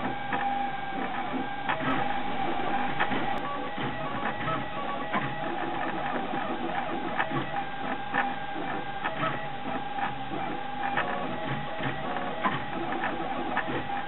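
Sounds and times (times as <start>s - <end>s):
steady whine: 0.0s - 14.0s
stepper motors buzzing: 0.0s - 14.0s.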